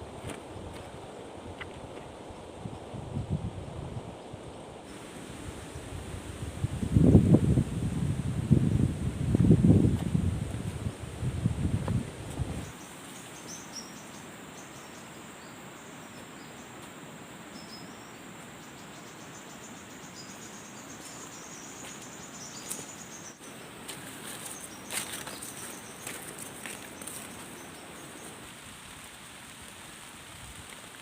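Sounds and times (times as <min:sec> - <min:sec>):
insects chirping and trilling: 0:04.2 - 0:30.9.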